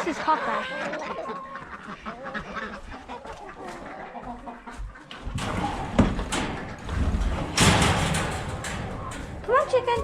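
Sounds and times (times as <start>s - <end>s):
hens clucking: 0.0s - 10.0s.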